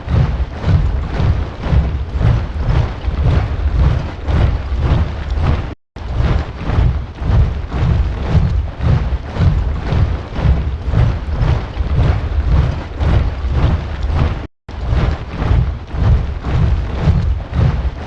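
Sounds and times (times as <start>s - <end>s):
soldiers marching in step: 0.0s - 18.0s.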